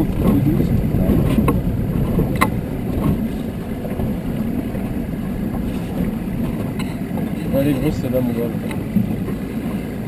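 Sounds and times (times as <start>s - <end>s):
boat low noise: 0.0s - 10.0s.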